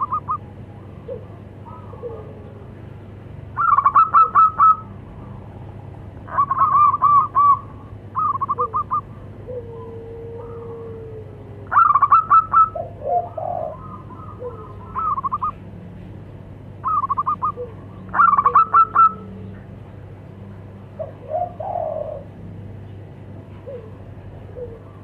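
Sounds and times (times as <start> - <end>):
soft warbling dove coos: 0.0 - 3.0, 3.6 - 15.6, 16.8 - 19.7, 21.0 - 22.4, 23.5 - 25.0
doves cooing rapidly: 0.0 - 25.0.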